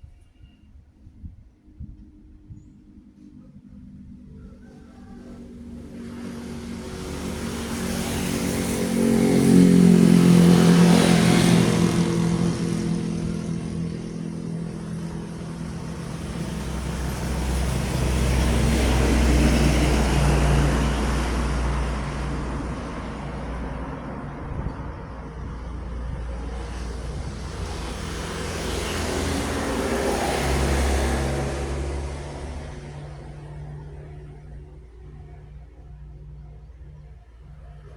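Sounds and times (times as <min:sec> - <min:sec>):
heavy trucks passing: 0:04.8 - 0:36.1.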